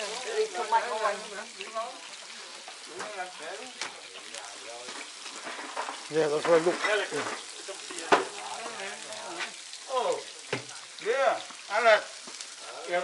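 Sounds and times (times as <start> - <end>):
sausages sizzling on a grill: 0.0 - 13.0
voices chatting: 0.0 - 13.0.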